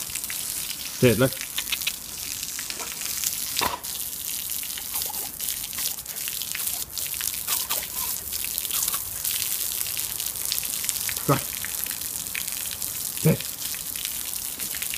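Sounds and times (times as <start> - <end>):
water drips and splashes: 0.0 - 14.9
water spraying onto pavement: 0.0 - 14.9.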